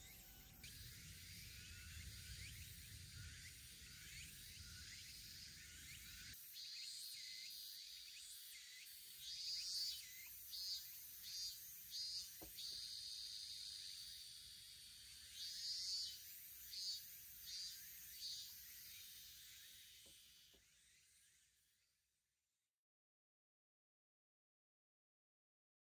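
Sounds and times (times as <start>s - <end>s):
crickets trilling: 0.0s - 21.3s
faint chirps: 0.0s - 22.0s.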